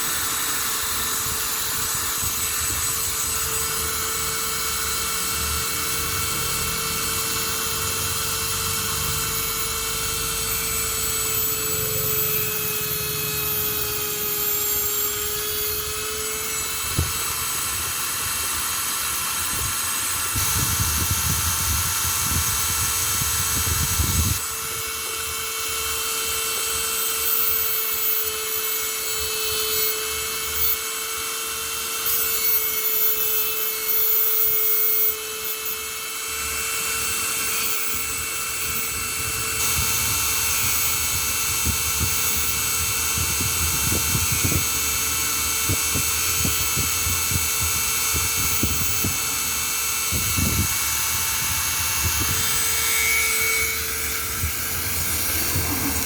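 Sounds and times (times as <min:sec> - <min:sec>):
small electric motor whining: 0:00.0 - 0:56.0.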